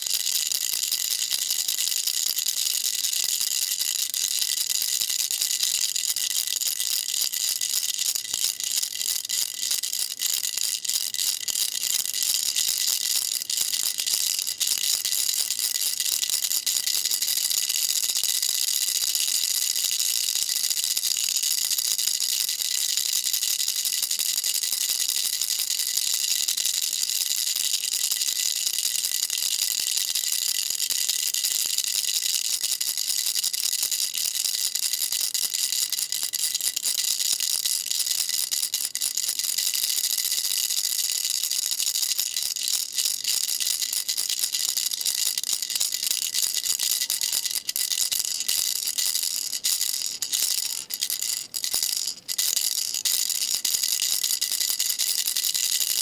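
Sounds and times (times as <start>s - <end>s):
baby rattle shaking: 0.0s - 56.0s.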